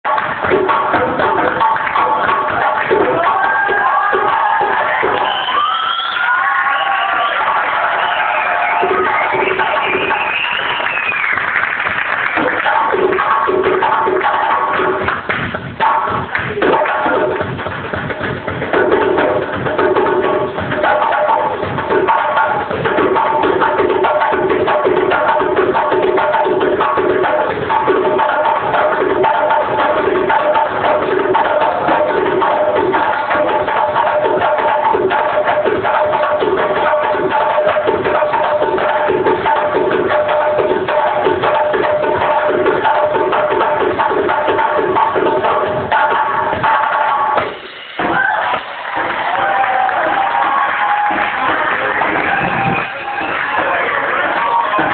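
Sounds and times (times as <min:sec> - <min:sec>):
drums and percussion beat: 0:00.0 - 0:54.9
live band playing: 0:00.0 - 0:54.9.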